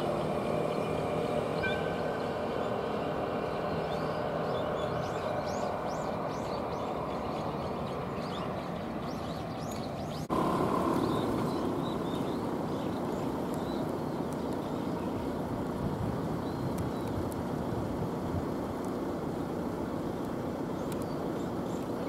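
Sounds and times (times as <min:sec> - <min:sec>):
road and rail traffic noise: 0:00.0 - 0:22.0
small birds chirping: 0:00.0 - 0:22.0.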